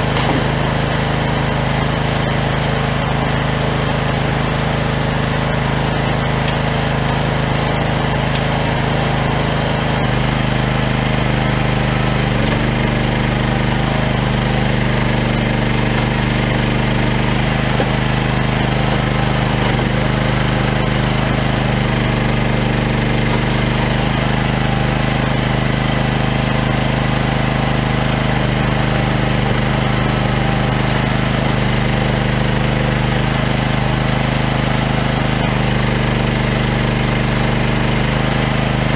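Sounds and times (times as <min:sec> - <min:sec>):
firewood processor engine: 0:00.0 - 0:38.9
logs being cut and split: 0:00.0 - 0:38.9.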